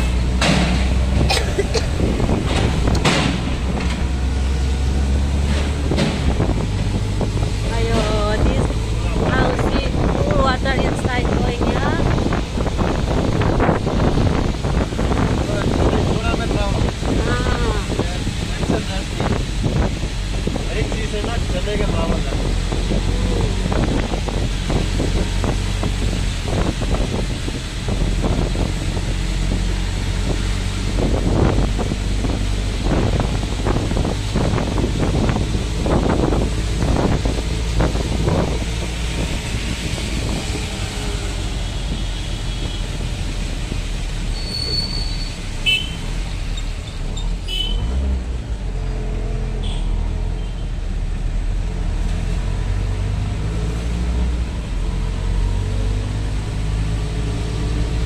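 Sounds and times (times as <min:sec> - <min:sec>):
road noise: 0:00.0 - 0:58.0
vehicle engine rumble: 0:00.0 - 0:58.0.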